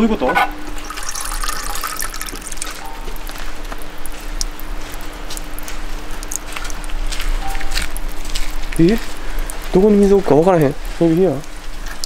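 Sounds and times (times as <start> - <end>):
water splashing and trickling: 0.7 - 12.0.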